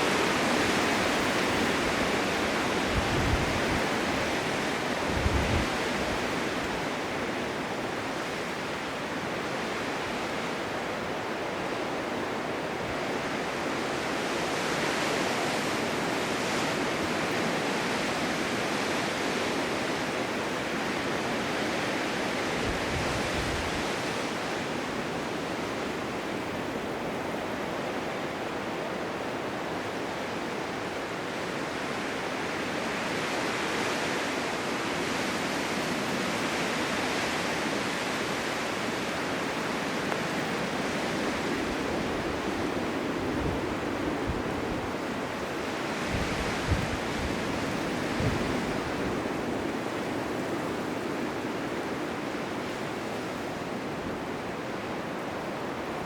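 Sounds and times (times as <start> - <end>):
blizzard wind rushing: 0.0 - 56.0.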